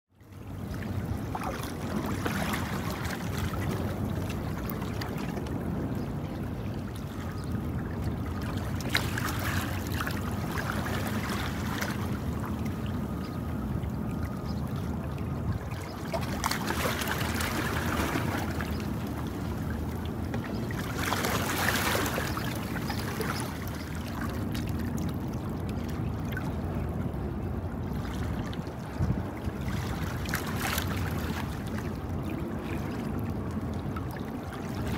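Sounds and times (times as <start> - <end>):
moving water: 0.1 - 34.9.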